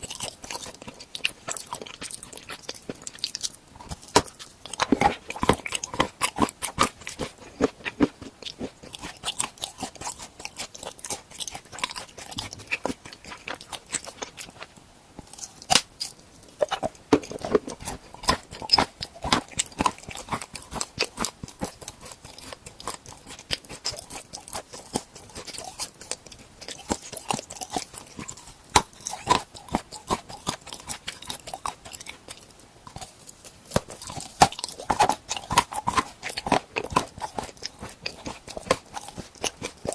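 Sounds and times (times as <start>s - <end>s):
crunching and chewing treats: 0.0s - 39.9s.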